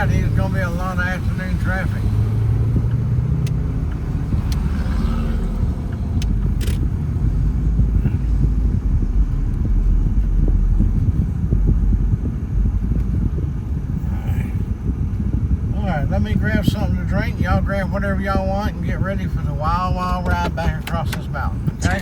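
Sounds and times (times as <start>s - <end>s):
vehicle engine and road rumble: 0.0s - 22.0s.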